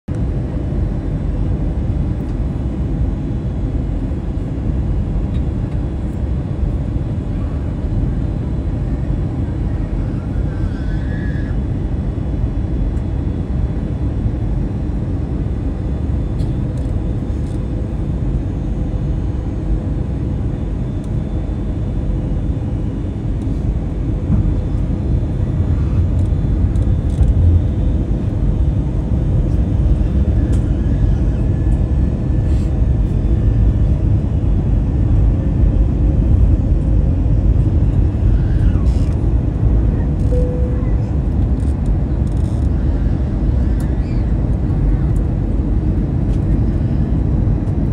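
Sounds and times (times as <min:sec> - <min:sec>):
airplane engine rumble in cabin: 0:00.0 - 0:47.9
faint steady hum: 0:00.1 - 0:47.9.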